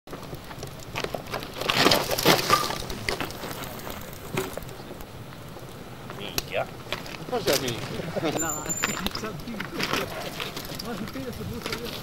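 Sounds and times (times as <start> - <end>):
mountain bike clattering on rock: 0.1 - 12.0.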